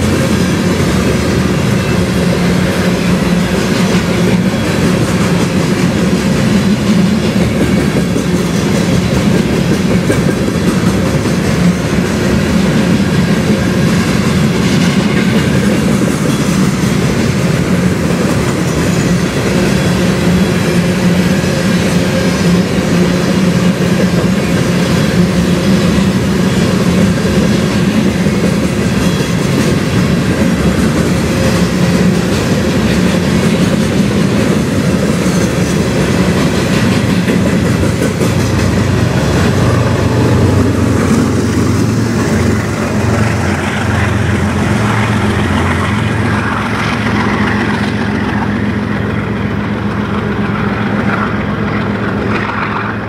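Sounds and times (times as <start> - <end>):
freight train wheels clacking: 0.0 - 53.0.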